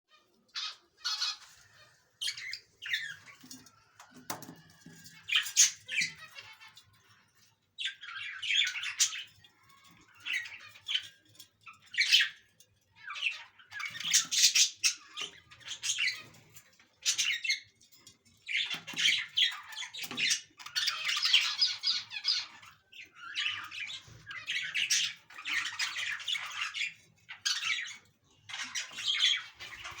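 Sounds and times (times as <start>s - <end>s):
budgerigars chattering and squawking: 0.1s - 30.0s.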